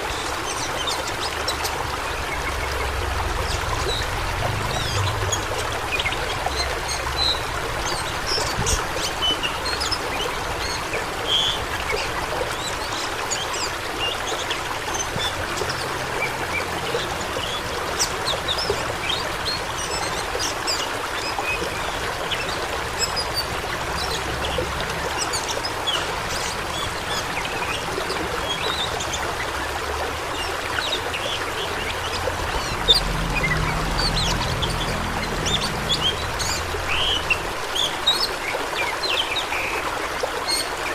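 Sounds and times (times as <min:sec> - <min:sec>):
birds chirping: 0:00.0 - 0:40.9
stream water rushing: 0:00.0 - 0:40.9.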